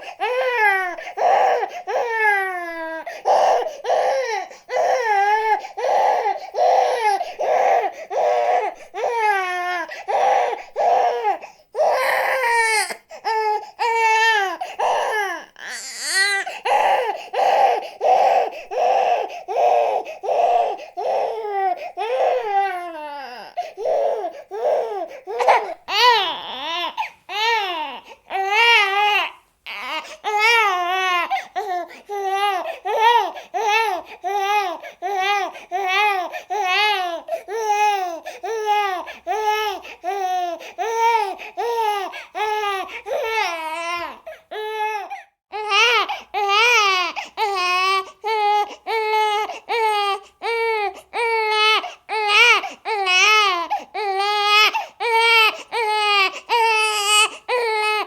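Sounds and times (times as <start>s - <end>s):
baby crying: 0.0s - 58.0s.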